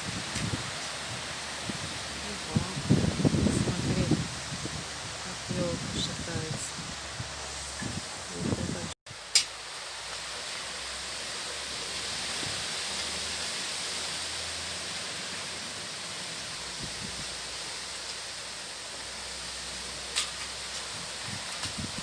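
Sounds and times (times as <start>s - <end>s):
strong wind rushing through trees: 0.0s - 22.0s.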